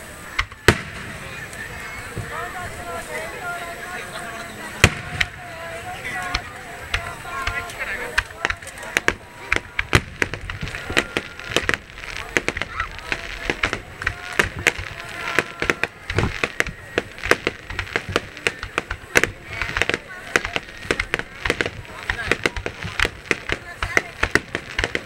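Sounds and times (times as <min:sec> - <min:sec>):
crowd talking and calling out: 0:00.0 - 0:25.0
fireworks bangs and crackles: 0:00.0 - 0:25.0.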